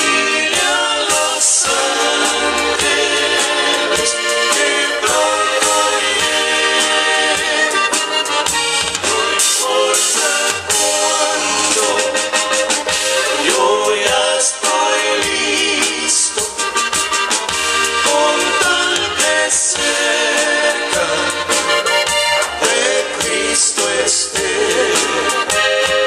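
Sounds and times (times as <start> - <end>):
accordion melody: 0.0 - 26.0
drum beat: 0.0 - 26.0.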